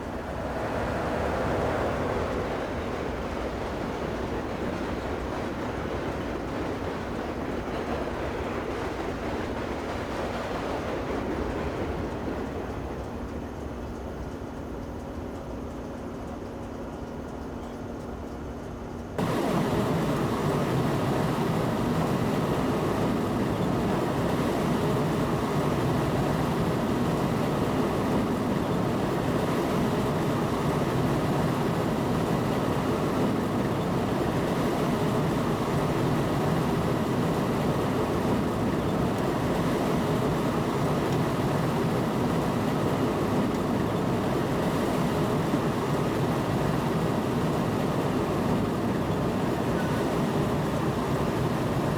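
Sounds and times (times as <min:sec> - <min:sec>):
train running rumble: 0:00.0 - 0:51.9.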